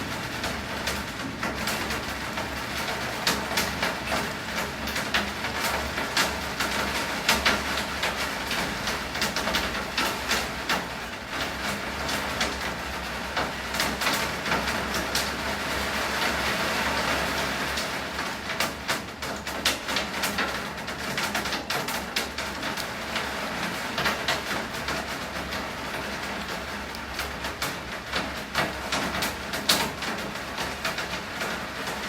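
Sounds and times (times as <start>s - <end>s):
heavy rain falling: 0.0s - 32.0s
raindrops hitting hard surface: 0.0s - 32.0s.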